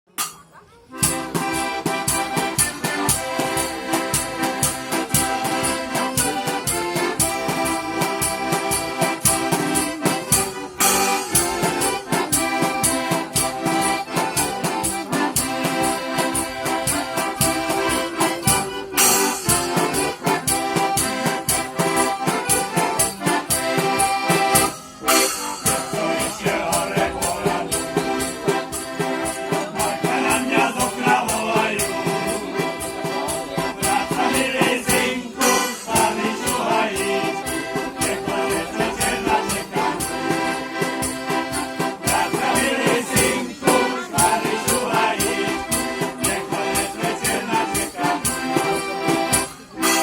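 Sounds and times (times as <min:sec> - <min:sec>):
folk band playing: 0:00.1 - 0:50.0.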